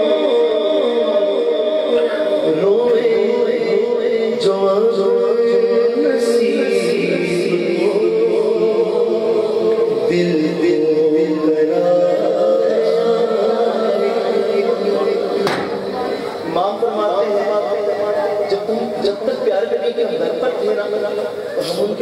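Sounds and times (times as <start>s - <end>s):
man singing through microphone: 0.0s - 22.0s.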